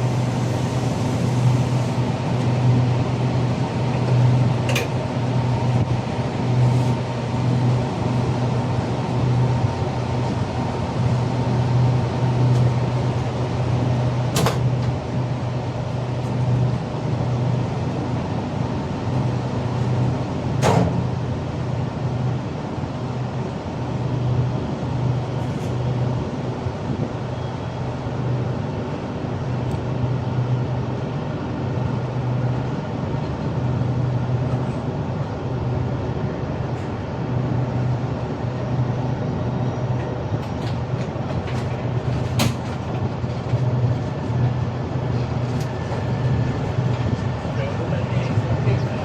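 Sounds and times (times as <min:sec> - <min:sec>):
train rumbling on track: 0:00.0 - 0:49.0.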